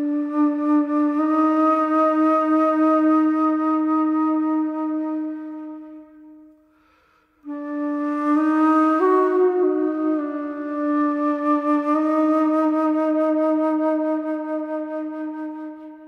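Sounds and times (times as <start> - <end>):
slow flute-like music: 0.0 - 16.0.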